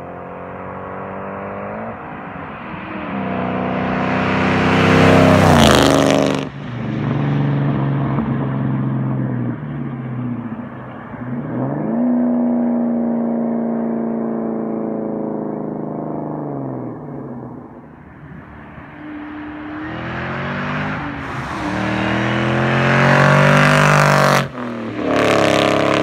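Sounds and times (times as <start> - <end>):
car engine passing with supercharger whine: 0.0 - 26.0.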